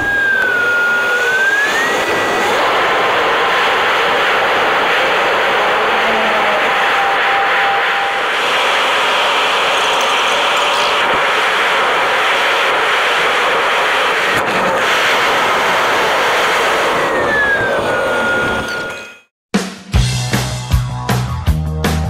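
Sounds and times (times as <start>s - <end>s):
whine falling in pitch: 0.0s - 19.2s
jet engine and air roar: 0.0s - 19.3s.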